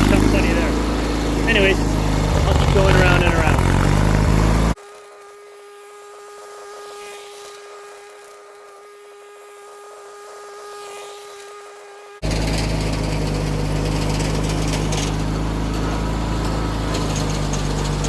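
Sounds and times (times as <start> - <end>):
mechanical hum with whine: 0.0 - 18.0.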